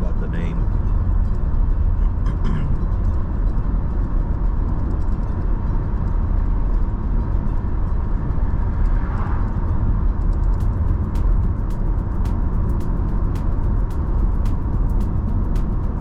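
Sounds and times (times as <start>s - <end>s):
car driving on road: 0.0s - 16.0s.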